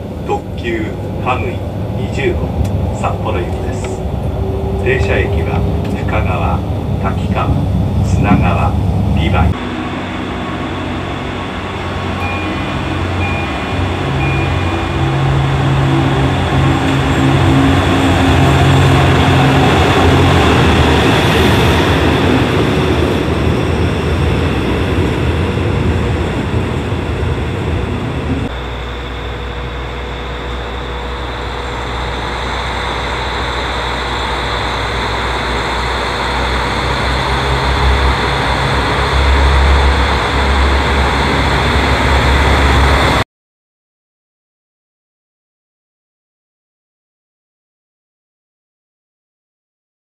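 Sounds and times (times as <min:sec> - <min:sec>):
diesel railcar engine drone: 0:00.0 - 0:43.2
rail noise: 0:00.0 - 0:43.2.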